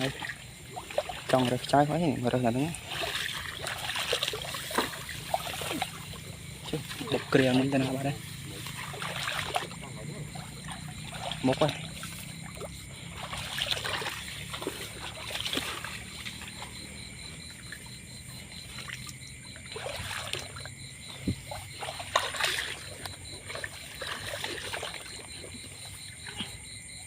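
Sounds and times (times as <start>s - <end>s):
water trickling and splashing: 0.0s - 27.0s.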